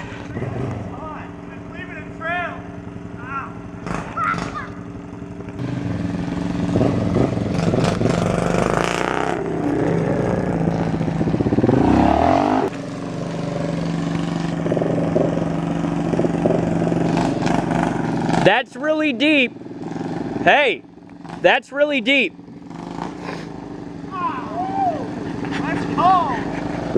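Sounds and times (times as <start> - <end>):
quad engine passing: 0.0 - 26.9
steady engine note: 0.0 - 26.9.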